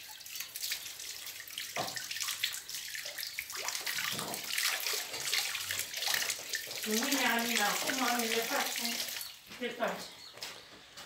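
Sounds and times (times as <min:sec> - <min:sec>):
water running with hissing rush: 0:00.0 - 0:09.4.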